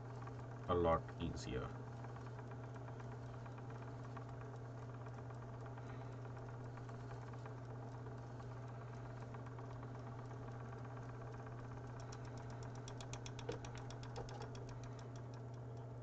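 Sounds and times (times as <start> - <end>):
spinning wheel humming and ticking: 0.0 - 16.0.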